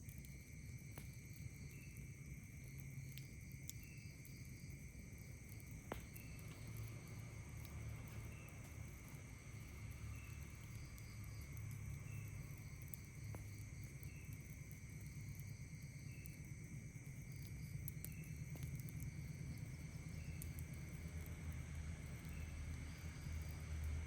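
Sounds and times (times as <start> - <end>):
insect chirp: 0.0 - 24.0
low steady rumble: 0.0 - 24.0.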